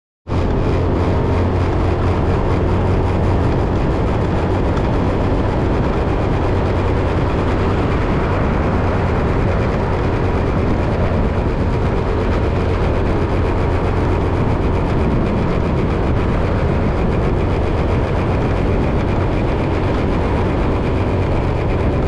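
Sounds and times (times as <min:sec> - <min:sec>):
vehicle road and engine rumble: 0:00.3 - 0:22.0.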